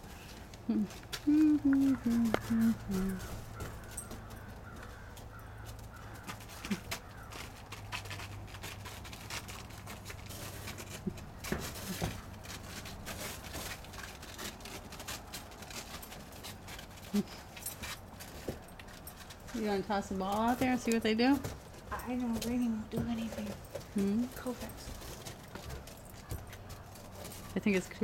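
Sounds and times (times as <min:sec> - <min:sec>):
paws crunching on frozen snow: 0:00.0 - 0:28.0.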